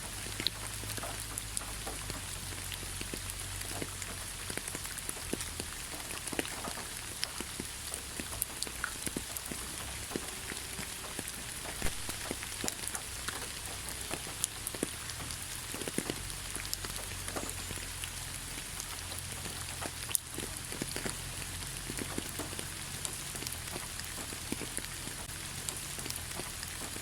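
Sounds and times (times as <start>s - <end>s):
raindrops striking close by: 0.0s - 27.0s
steady rain hiss: 0.0s - 27.0s.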